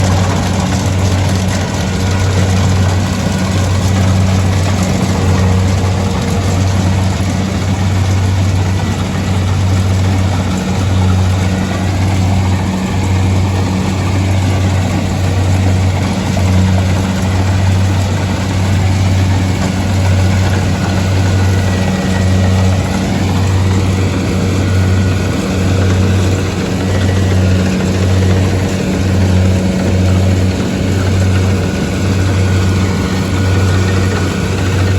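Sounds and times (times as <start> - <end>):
harvester engine humming: 0.0 - 34.9.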